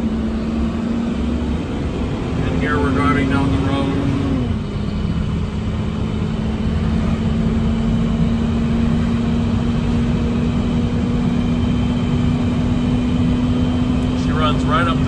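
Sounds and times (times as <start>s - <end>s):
road and tyre rumble: 0.0s - 15.0s
truck engine droning: 0.0s - 15.0s.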